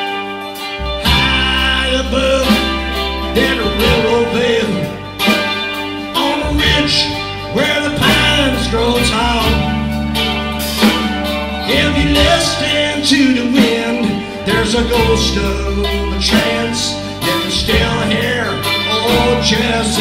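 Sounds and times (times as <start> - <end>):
bass guitar: 0.0 - 20.0
drum kit beat: 0.0 - 20.0
electric guitar lead line: 0.0 - 20.0.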